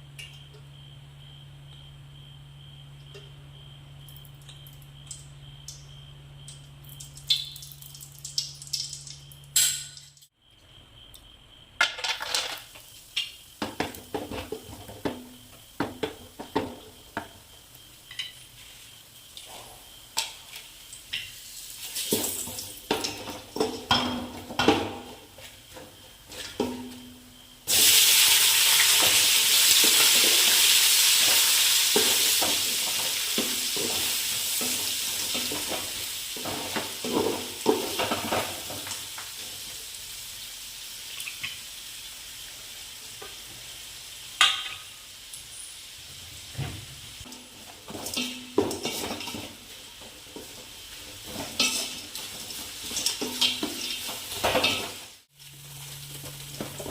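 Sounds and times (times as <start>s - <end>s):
food sizzling in hot oil: 6.8s - 10.3s, 12.0s - 26.8s, 27.4s - 56.9s.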